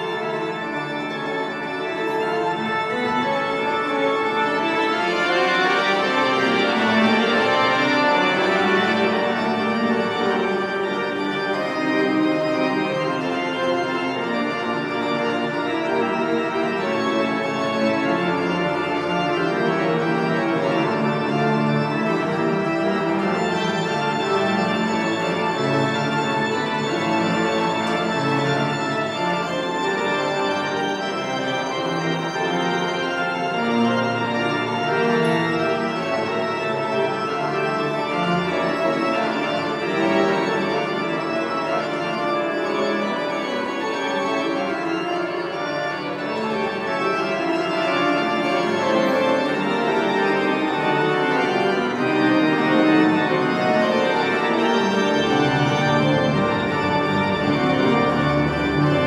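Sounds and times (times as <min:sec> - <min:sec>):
pipe organ chords: 0:00.0 - 0:59.0.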